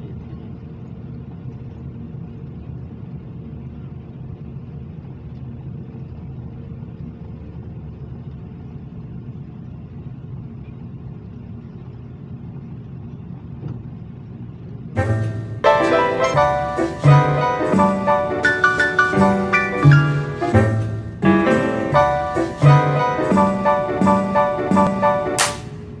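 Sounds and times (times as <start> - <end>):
airplane cabin low rumble: 0.0 - 26.0.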